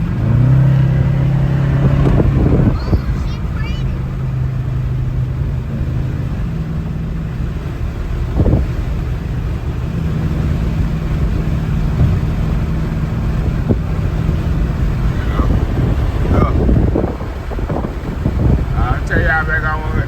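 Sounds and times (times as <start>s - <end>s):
car exhaust droning: 0.0s - 20.0s.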